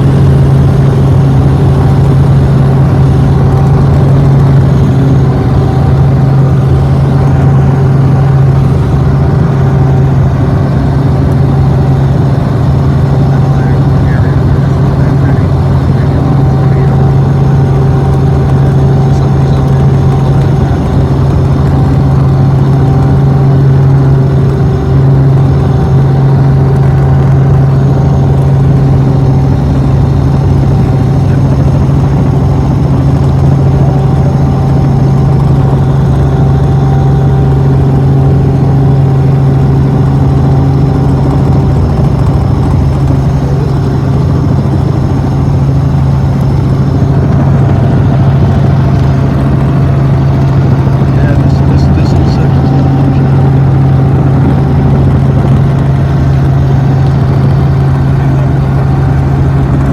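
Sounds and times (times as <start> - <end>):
aircraft engine droning in cabin: 0.0 - 59.9.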